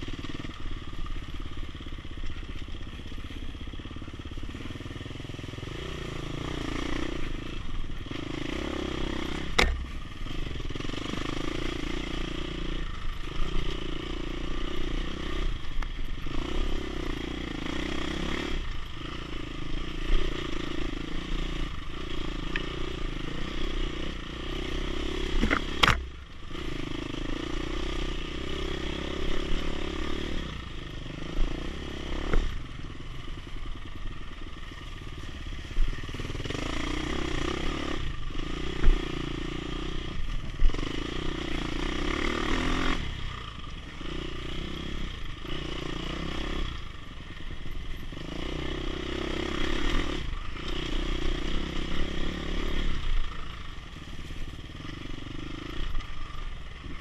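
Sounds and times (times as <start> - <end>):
dirt bike engine revving: 4.4 - 33.5, 34.2 - 57.0.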